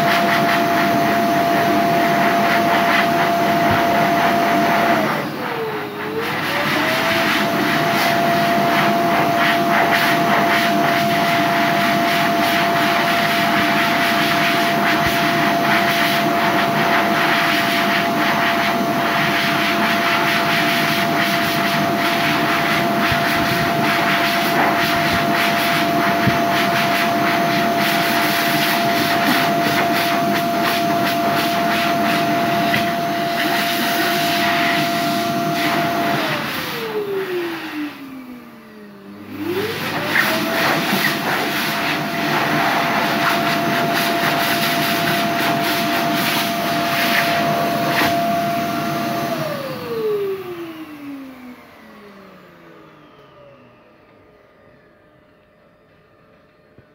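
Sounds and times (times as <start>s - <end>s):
hand dryer running: 0.0s - 54.5s.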